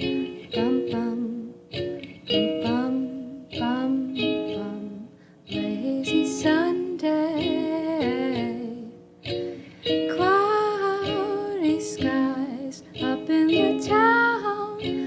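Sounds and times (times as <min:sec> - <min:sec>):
ukulele plucked chords: 0:00.0 - 0:15.0.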